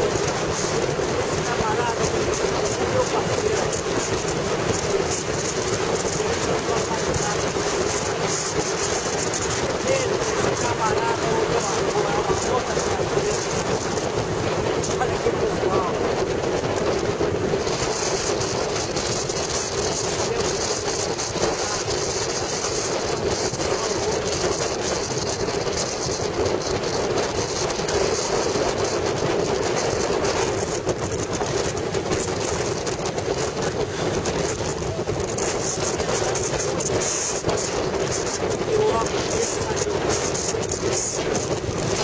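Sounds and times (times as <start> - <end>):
motorcycle engine drone: 0.0 - 42.0
road noise: 0.0 - 42.0
wind rushing over microphone: 0.0 - 42.0.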